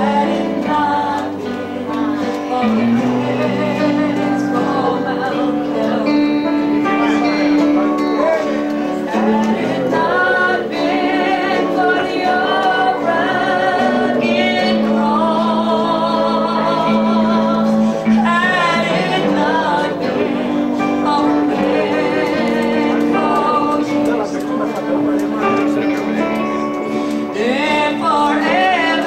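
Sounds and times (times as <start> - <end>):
woman singing gospel song: 0.0 - 7.0, 9.1 - 24.3, 27.2 - 29.0
guitar: 0.0 - 29.0.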